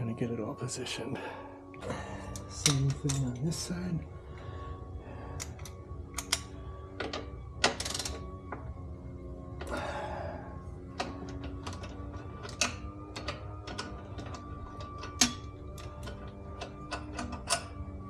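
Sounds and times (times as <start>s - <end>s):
leaf blower whine: 0.0s - 7.6s, 8.2s - 16.9s.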